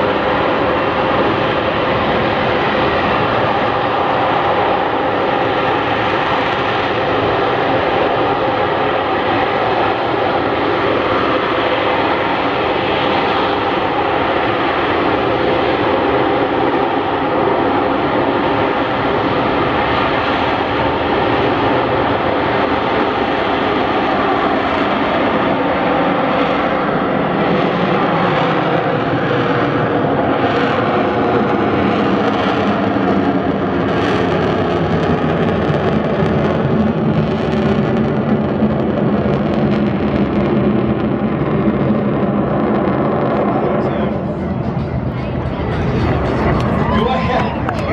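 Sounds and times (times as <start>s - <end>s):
jet engine roaring with whine: 0.0s - 47.9s.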